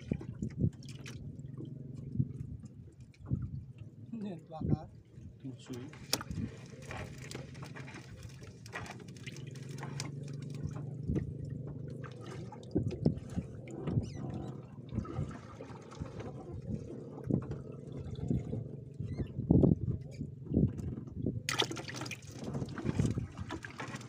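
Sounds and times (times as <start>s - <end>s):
low hum: 0.0s - 23.4s
small splashes and knocks: 0.0s - 24.0s.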